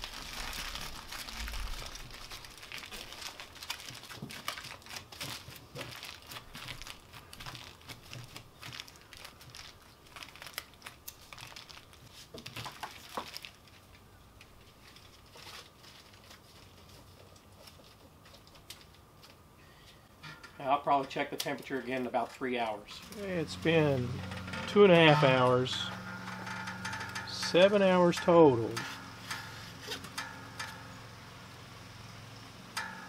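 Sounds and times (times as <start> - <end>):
aluminium foil crinkling: 0.0 - 31.0.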